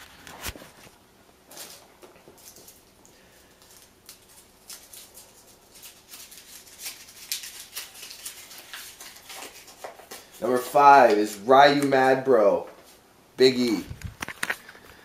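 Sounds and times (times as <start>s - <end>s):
paper crinkling: 0.0s - 12.1s.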